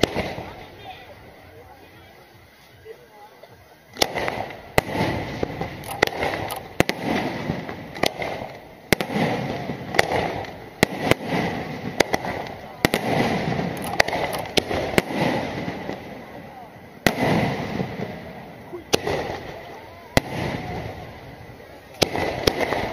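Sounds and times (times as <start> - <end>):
fireworks bursting with sharp bangs: 0.0 - 22.9.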